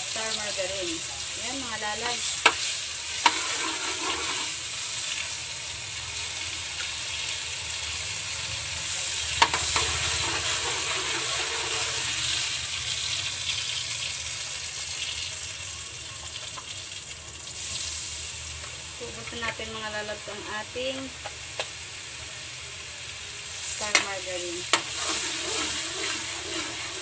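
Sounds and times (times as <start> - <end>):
margarine sizzling in hot oil: 0.0 - 27.0.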